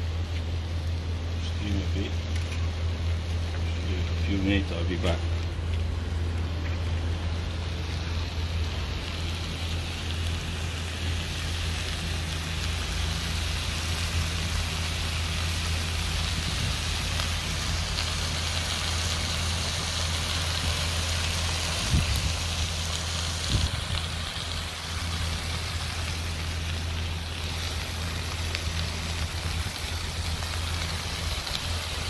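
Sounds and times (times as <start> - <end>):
constant low hum: 0.0 - 32.0
food sizzling in a wok: 6.2 - 32.0.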